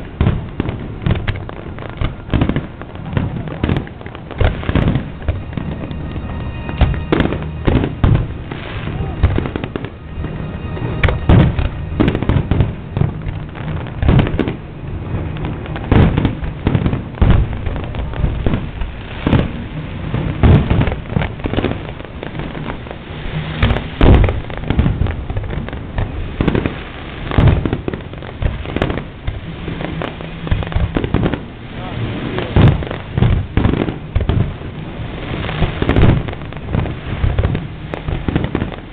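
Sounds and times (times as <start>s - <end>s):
firework shells bursting: 0.0s - 38.9s
fireworks crackling: 0.0s - 38.9s.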